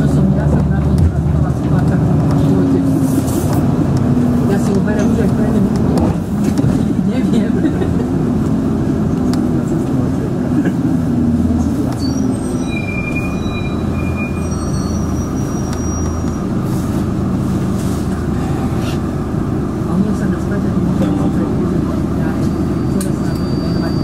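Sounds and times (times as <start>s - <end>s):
bus engine rumble: 0.0s - 24.0s.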